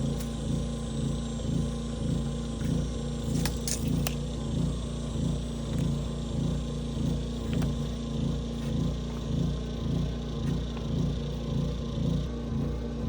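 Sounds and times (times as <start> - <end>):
motor running rhythmically: 0.0 - 13.0.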